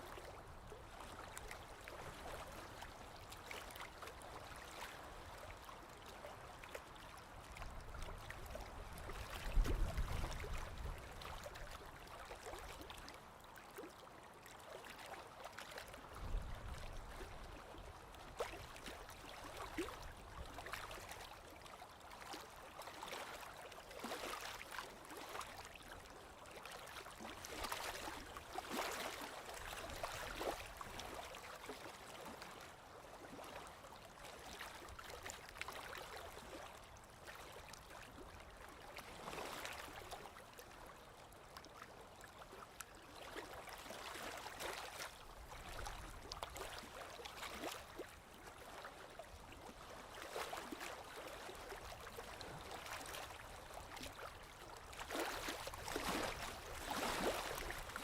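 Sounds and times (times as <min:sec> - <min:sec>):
waves lapping against shore: 0:00.0 - 0:58.0.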